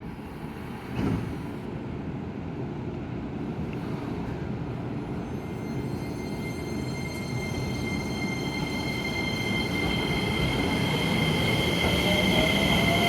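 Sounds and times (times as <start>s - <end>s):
electric train rumbling on rails: 0.0s - 13.0s.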